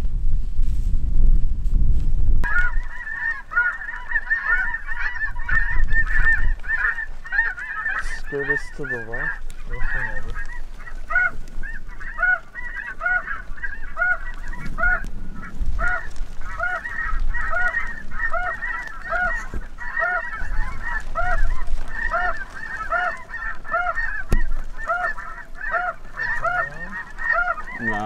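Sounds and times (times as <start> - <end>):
geese honking: 2.4 - 28.0.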